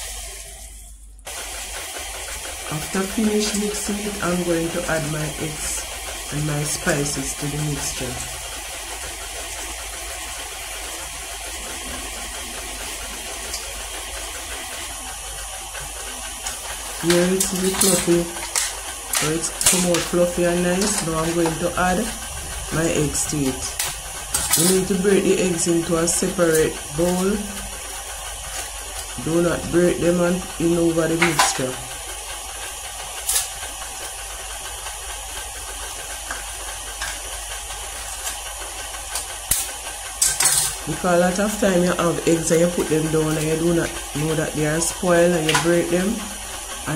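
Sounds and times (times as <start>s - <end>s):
mixer clack: 0.0s - 46.9s
stand mixer running: 0.0s - 46.9s.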